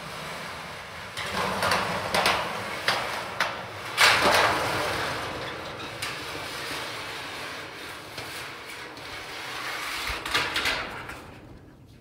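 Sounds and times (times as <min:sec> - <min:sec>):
metal roofing panel scraping: 0:00.0 - 0:11.7.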